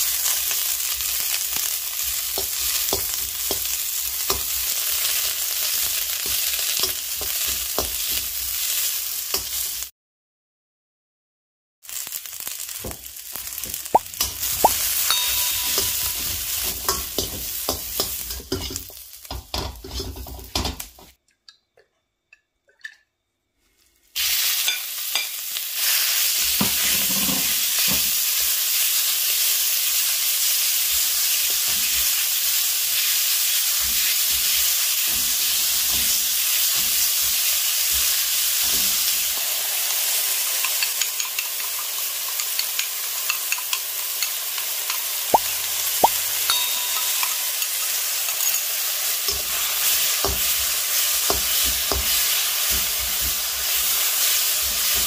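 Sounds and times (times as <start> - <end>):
food sizzling in a wok: 0.0 - 9.9, 11.8 - 21.2, 23.6 - 55.0.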